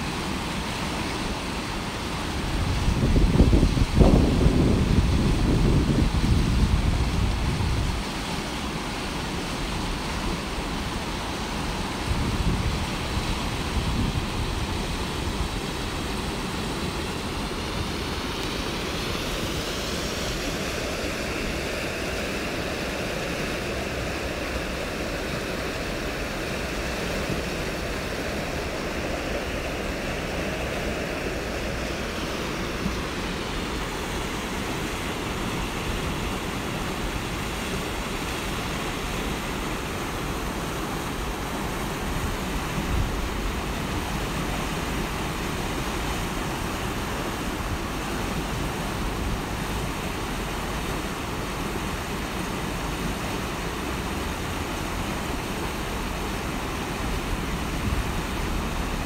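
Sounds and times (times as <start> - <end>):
river rapids rushing: 0.0 - 59.0
wind gusts on microphone: 0.0 - 59.0.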